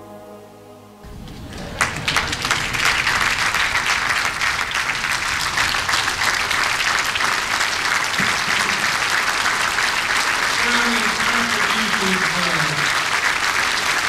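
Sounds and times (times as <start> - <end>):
large audience applauding: 1.1 - 14.0.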